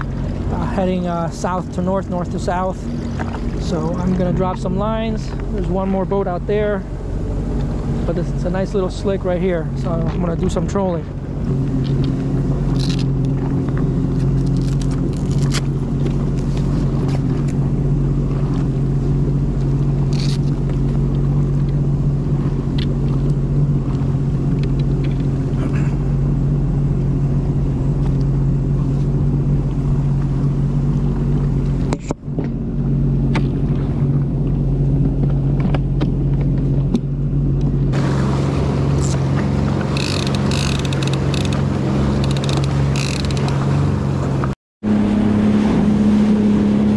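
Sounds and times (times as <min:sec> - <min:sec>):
water rushing from wake: 0:00.0 - 0:46.9
watercraft engine humming: 0:00.0 - 0:46.9.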